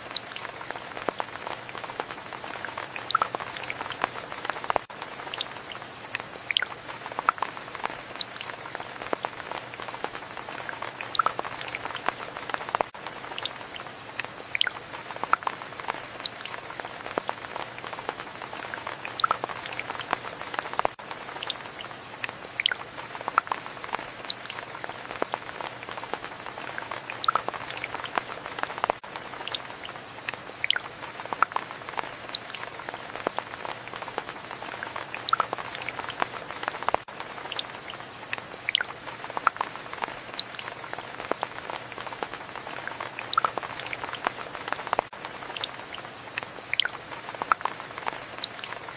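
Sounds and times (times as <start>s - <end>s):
raindrops pattering and dripping: 0.0s - 48.9s
steady rain hiss: 0.0s - 48.9s.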